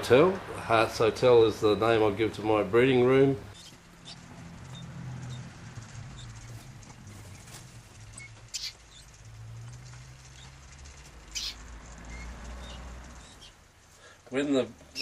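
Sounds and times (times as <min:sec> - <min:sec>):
canaries chirping: 0:02.9 - 0:15.0.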